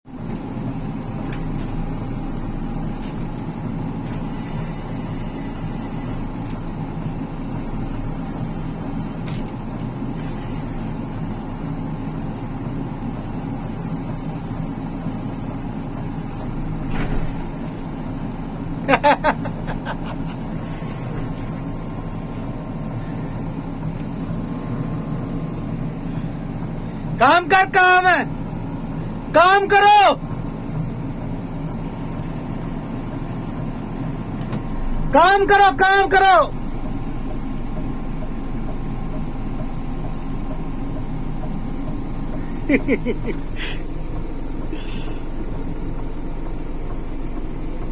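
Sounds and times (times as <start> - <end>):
diesel engine running: 0.1 - 47.9.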